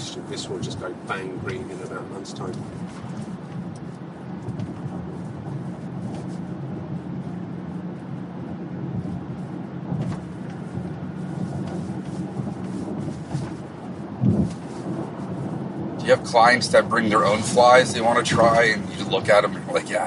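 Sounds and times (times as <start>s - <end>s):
car engine hum: 0.0s - 20.0s
road and tyre noise: 0.0s - 20.0s.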